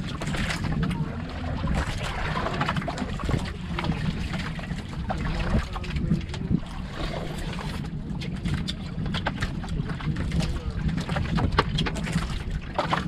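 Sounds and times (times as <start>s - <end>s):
water lapping against boat hull: 0.0s - 13.0s
wind on microphone: 0.0s - 13.0s.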